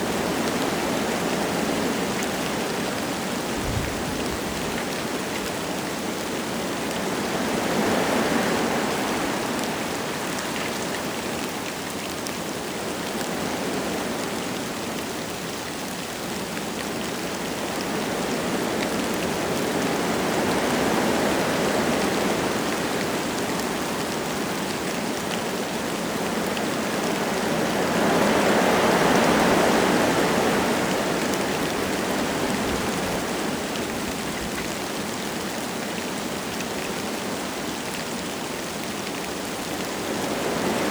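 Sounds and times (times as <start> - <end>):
light rain falling: 0.0 - 40.9
wind gusting through trees: 0.0 - 40.9.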